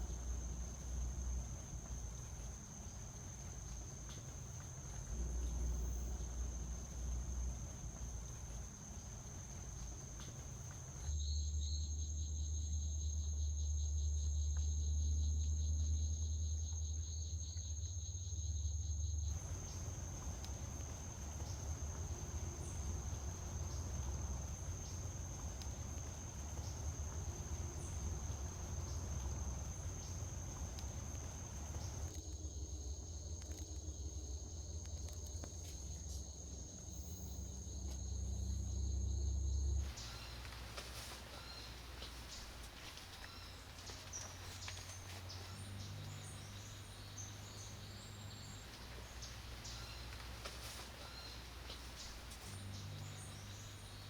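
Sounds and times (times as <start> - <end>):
high-pitched insect trill: 0.0 - 33.6, 35.4 - 54.0
lower insect trill: 0.0 - 54.0.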